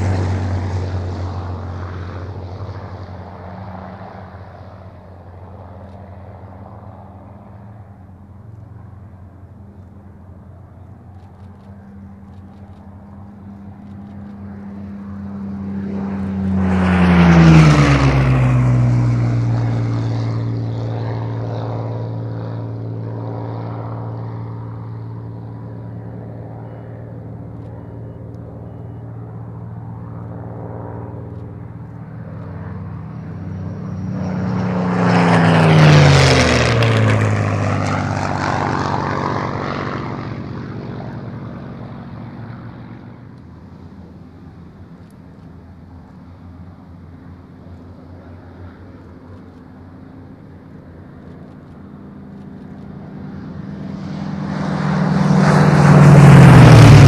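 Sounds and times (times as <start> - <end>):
distant aircraft engine drone: 0.0 - 57.0
propeller fighter plane passing fast: 0.0 - 57.0.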